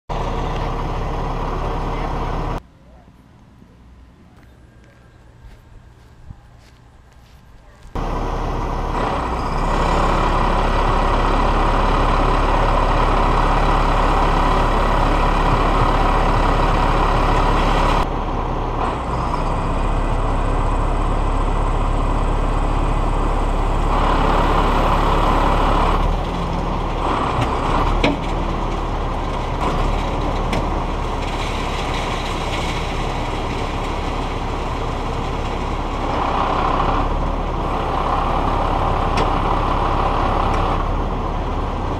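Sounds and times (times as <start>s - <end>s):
diesel engine running under load: 0.1s - 2.6s, 7.6s - 41.9s.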